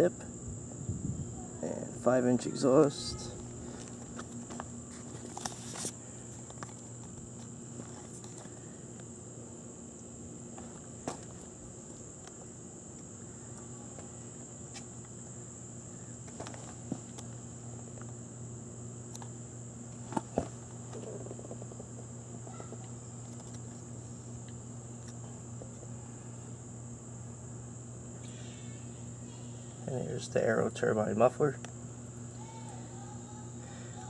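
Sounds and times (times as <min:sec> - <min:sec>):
crickets chirping: 0:00.0 - 0:34.0
low steady hum: 0:00.0 - 0:34.0.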